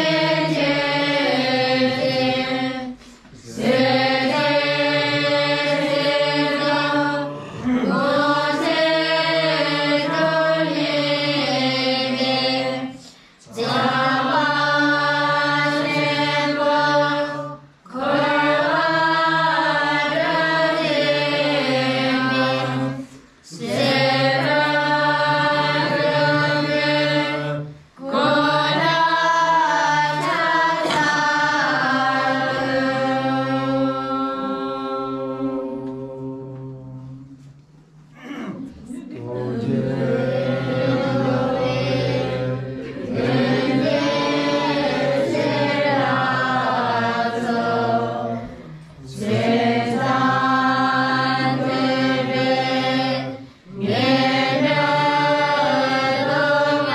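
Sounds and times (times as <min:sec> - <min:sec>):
group chanting prayer in unison: 0:00.0 - 0:56.9.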